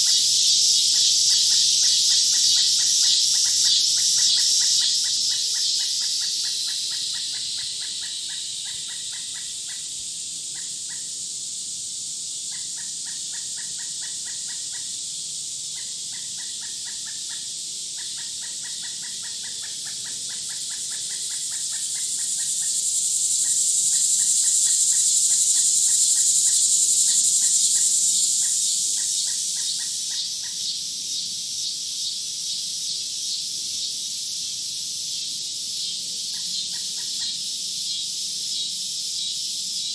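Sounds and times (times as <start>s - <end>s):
high insect buzz: 0.0s - 39.9s.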